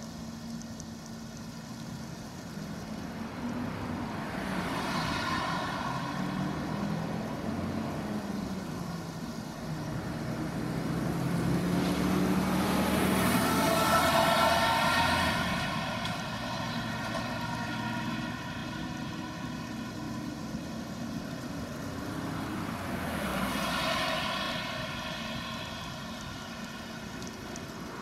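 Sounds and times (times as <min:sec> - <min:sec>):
rising whine: 0:00.0 - 0:28.0
excavator diesel engines running: 0:00.2 - 0:28.0.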